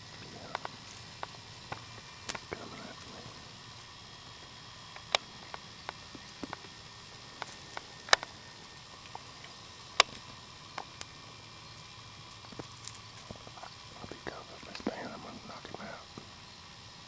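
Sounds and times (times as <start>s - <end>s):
raccoons foraging on gravel: 0.0s - 17.0s.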